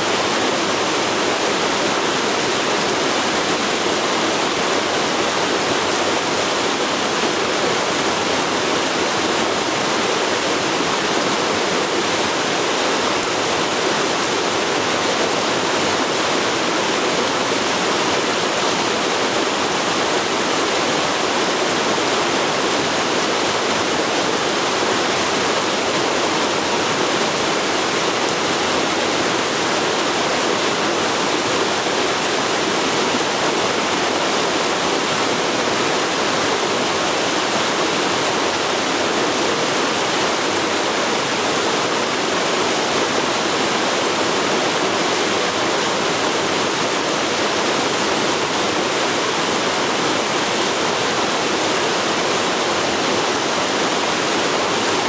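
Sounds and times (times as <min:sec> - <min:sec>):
river flowing over rocks: 0:00.0 - 0:55.0.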